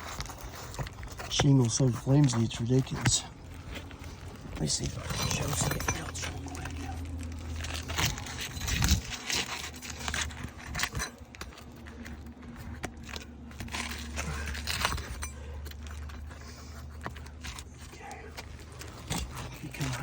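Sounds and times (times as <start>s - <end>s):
roof shingles crackling and scraping: 0.0s - 20.0s
steady low hum: 0.0s - 20.0s.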